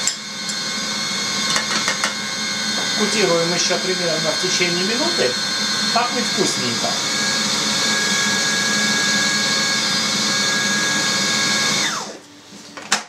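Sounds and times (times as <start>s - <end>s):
food processor motor running: 0.0s - 12.2s.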